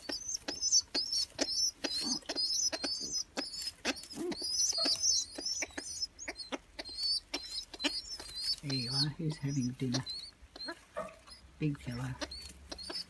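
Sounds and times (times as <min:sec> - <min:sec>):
bird chicks squeaky chirping: 0:00.0 - 0:13.0.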